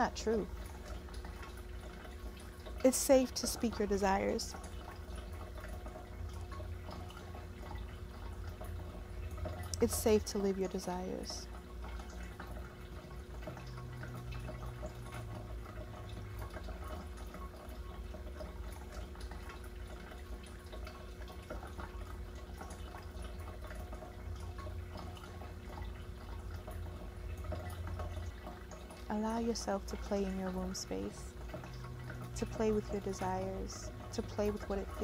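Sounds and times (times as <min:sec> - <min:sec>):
low steady hum: 0:00.0 - 0:35.0
water dripping and trickling: 0:00.0 - 0:35.0.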